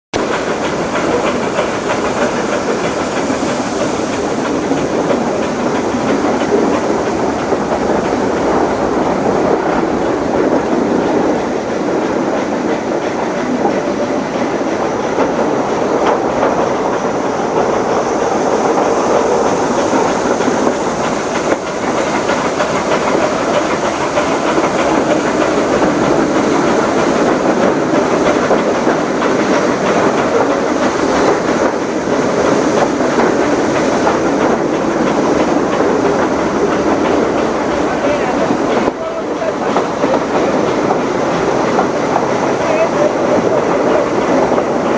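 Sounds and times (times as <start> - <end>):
train wheels on rails: 0.1 - 44.9.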